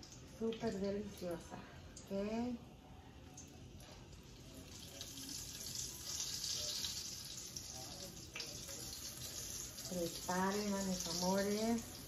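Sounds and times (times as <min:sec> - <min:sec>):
patties sizzling in hot oil: 0:00.0 - 0:12.0.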